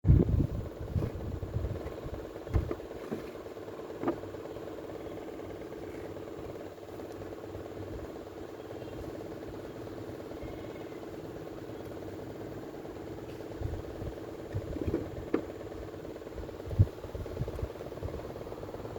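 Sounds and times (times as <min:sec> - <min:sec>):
small motor humming: 0:00.1 - 0:18.9.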